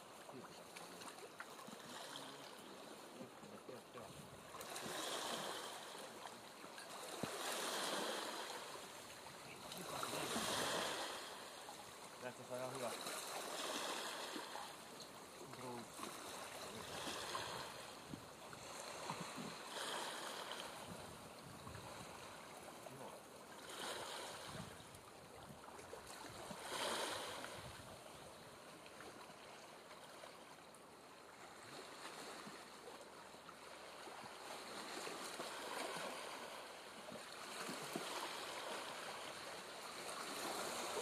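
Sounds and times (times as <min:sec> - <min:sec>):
small sea waves lapping: 0:00.0 - 0:41.0.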